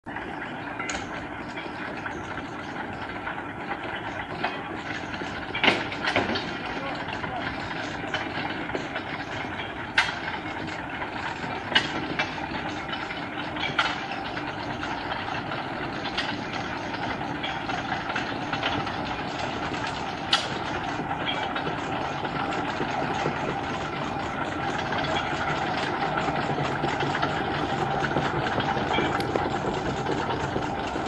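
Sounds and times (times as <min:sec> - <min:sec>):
boat machinery noise: 0:00.1 - 0:31.0.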